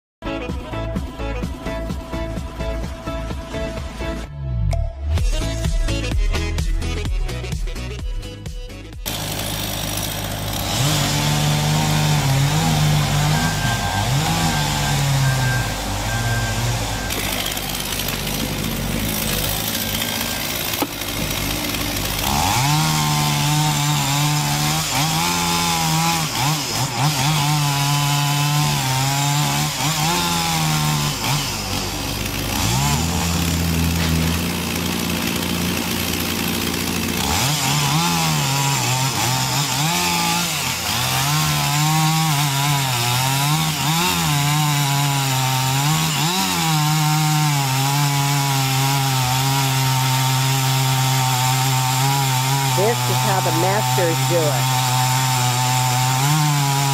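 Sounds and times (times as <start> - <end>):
chainsaw cutting through trunk: 9.0 - 56.9.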